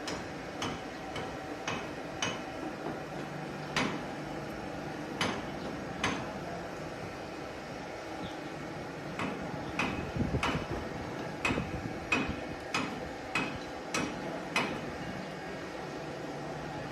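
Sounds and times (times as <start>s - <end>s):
mechanical hum: 0.0s - 16.9s.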